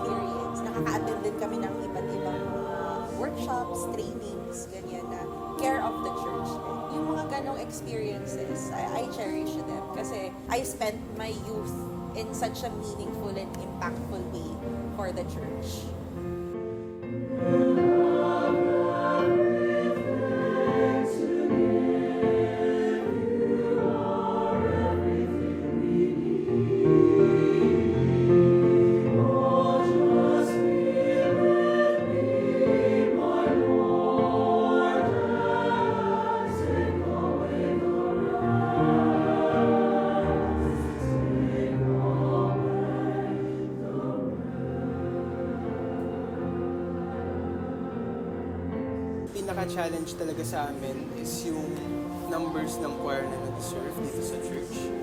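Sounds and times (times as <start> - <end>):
youth choir singing: 0.0 - 16.6, 17.2 - 49.2, 50.5 - 55.0.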